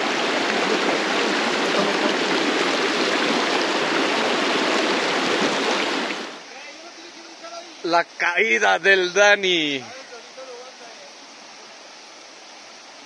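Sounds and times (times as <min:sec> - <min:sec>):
stream rushing over stones: 0:00.0 - 0:13.0.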